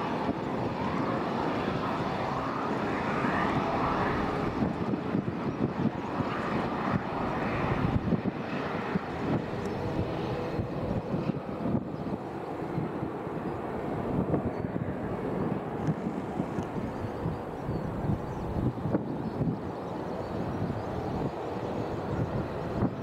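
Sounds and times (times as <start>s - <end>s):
aircraft engines rumbling: 0.0s - 23.0s
high engine whine: 0.0s - 23.0s.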